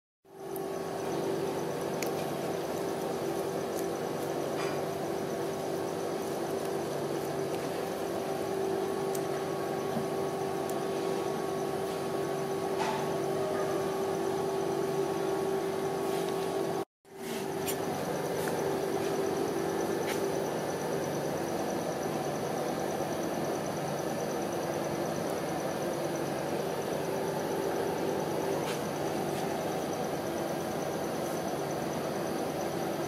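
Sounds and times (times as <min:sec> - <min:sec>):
compressor humming: 0:00.3 - 0:33.0.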